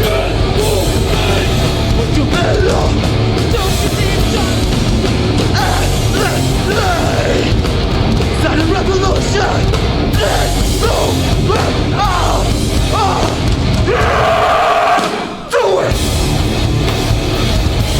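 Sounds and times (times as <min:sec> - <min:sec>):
punk band playing live: 0:00.0 - 0:17.9.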